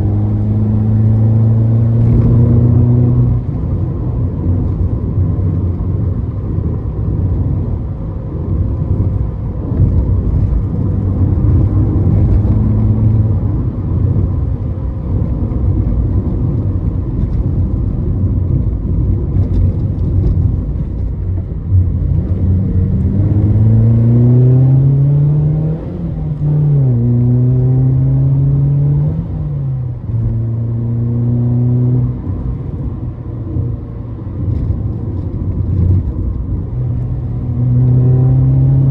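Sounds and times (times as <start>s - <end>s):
car engine revving: 0.0s - 5.4s, 8.8s - 18.6s, 19.3s - 33.0s, 34.2s - 38.9s
road noise: 0.0s - 38.9s.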